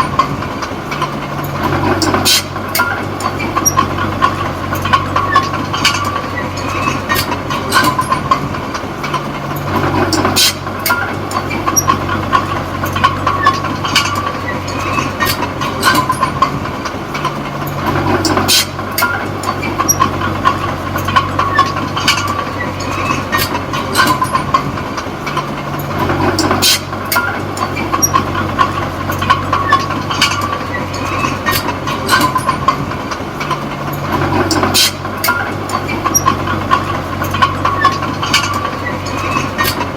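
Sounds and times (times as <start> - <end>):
bulldozer diesel engine running: 0.0 - 39.9
steel tracks clanking and squealing: 0.0 - 39.9.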